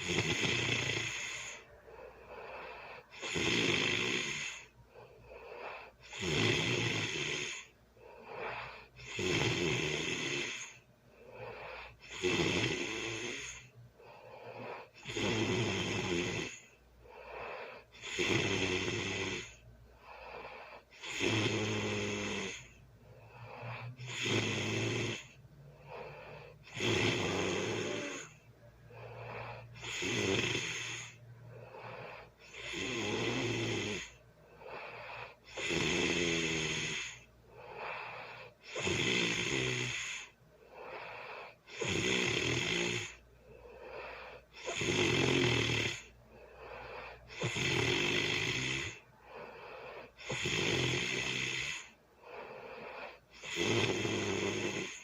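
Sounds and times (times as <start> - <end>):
soft breaths: 0.0 - 3.2, 4.2 - 6.2, 7.4 - 9.1, 10.2 - 35.7, 36.9 - 38.9, 39.8 - 42.0, 42.8 - 45.2, 45.9 - 48.2, 48.8 - 55.0
person snoring loudly: 0.0 - 55.0.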